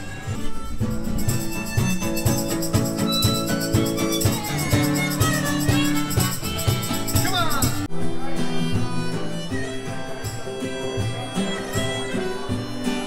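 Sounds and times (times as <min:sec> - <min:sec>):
strummed acoustic guitar: 0:00.0 - 0:13.0
steady percussion beat: 0:00.3 - 0:13.0.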